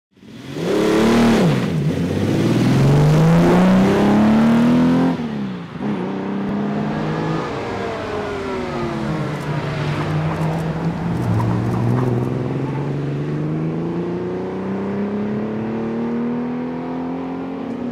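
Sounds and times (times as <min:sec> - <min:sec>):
car engine revving hard: 0:00.2 - 0:17.9
distant car engine approaching: 0:00.2 - 0:17.9.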